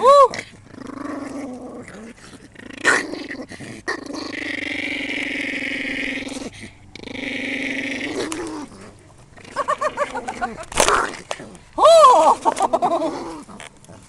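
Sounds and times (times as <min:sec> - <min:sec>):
dog growling: 0:00.0 - 0:14.0.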